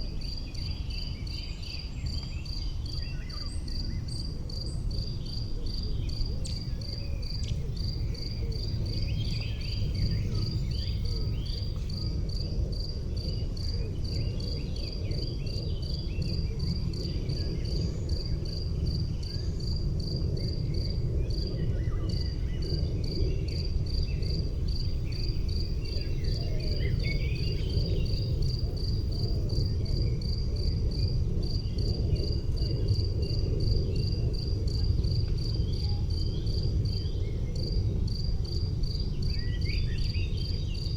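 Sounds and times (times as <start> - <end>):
cricket chirping: 0.0 - 40.9
steady low rumble: 5.3 - 40.9.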